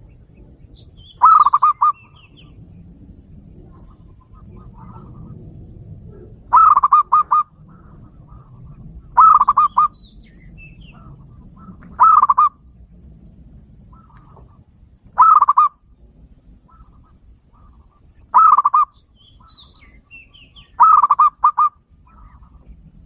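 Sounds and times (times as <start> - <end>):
zebra dove cooing: 1.0 - 2.6, 3.4 - 10.0, 10.8 - 12.7, 13.8 - 15.9, 16.6 - 22.8.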